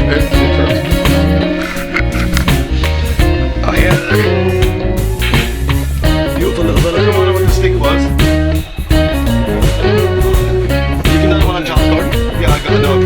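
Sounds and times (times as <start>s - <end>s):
guitar-led music with beat: 0.0s - 13.0s.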